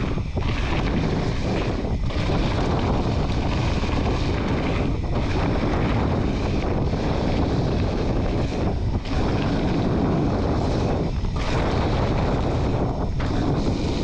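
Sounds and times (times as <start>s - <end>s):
mountain bike rolling rumble: 0.0s - 14.0s
wind buffeting microphone: 0.0s - 14.0s.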